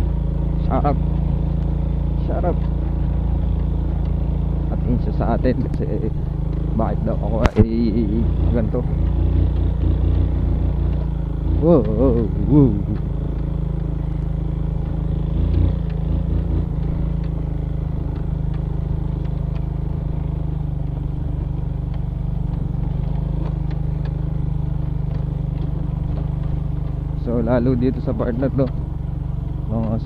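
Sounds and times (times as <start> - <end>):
bike rattles and clicks: 0.0 - 30.0
motorcycle engine running: 0.0 - 30.0.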